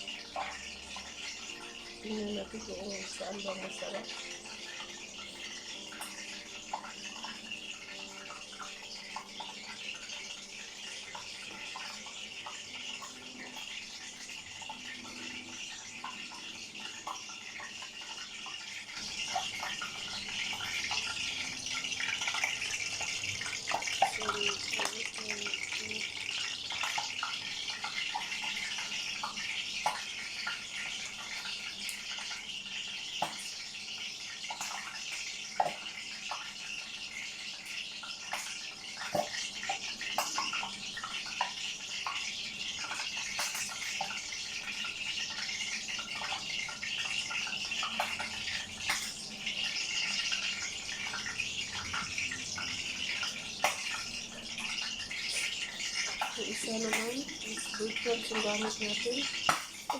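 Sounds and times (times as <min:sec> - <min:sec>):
chicken frying in hot oil: 0:00.0 - 0:59.9
oil popping and crackling: 0:00.0 - 0:59.9.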